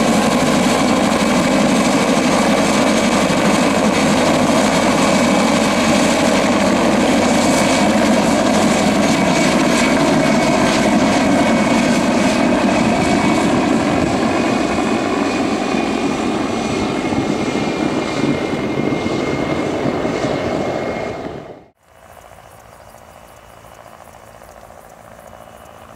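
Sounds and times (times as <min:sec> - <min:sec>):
helicopter flying overhead: 0:00.0 - 0:25.9
thin high turbine whine: 0:00.0 - 0:25.9.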